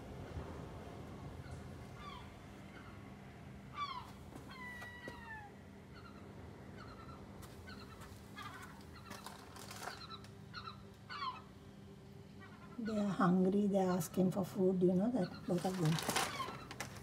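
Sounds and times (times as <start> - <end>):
gull chicks calling: 1.3 - 17.0.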